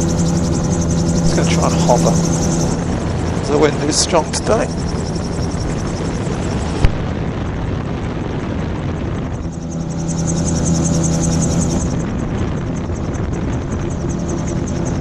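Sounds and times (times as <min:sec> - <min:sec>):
gyrocopter engine drone with flutter: 0:00.0 - 0:15.0.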